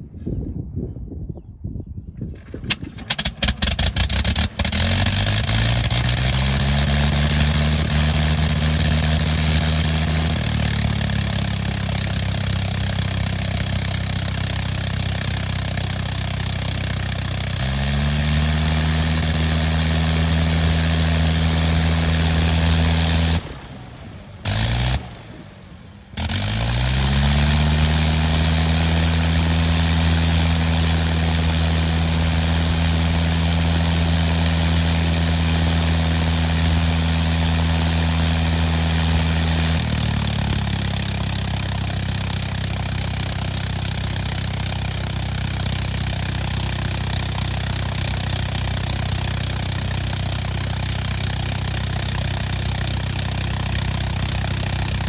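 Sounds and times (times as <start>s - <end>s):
rotary aircraft engine running: 2.3s - 55.0s.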